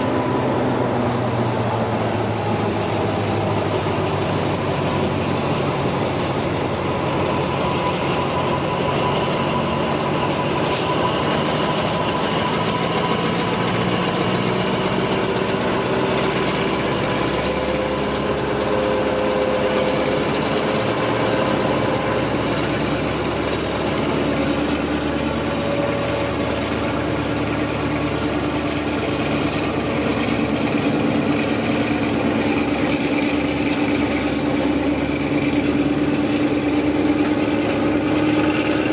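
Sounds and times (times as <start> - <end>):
diesel locomotive running with whine: 0.0 - 38.9.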